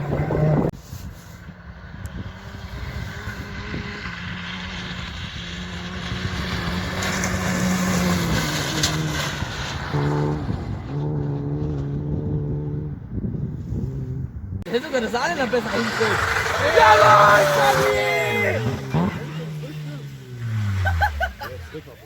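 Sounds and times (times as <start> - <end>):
rally car engine approaching: 0.0 - 0.7, 1.3 - 22.0.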